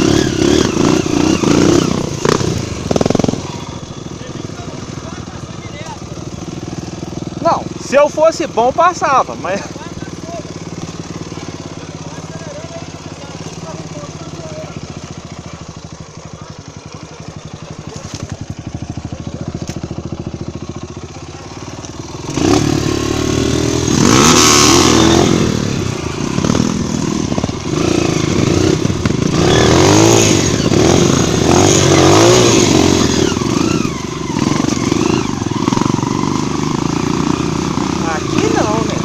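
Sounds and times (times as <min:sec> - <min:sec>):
dirt bike engine idling: 0:00.0 - 0:39.0
dirt bike revving: 0:00.0 - 0:39.0.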